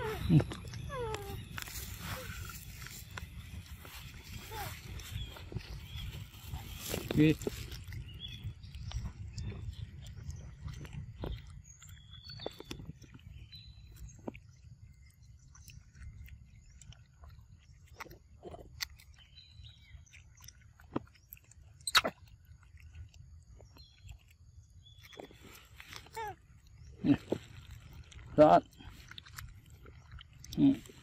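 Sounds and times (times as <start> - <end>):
monkey chewing fruit: 0.0 - 31.0.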